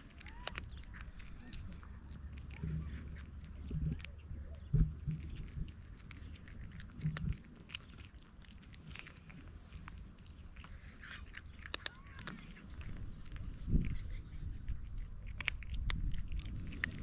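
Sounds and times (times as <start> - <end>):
cat chewing food: 0.0 - 17.0.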